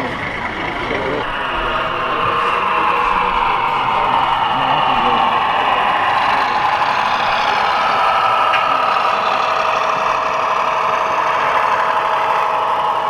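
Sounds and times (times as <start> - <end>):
model diesel engine sound: 0.0 - 13.0.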